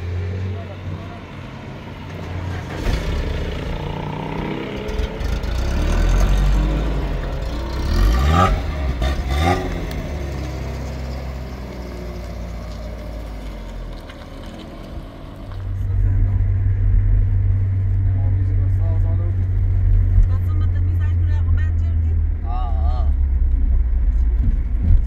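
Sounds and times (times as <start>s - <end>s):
engine revving: 0.0s - 25.0s
vehicle engine running: 0.0s - 25.0s.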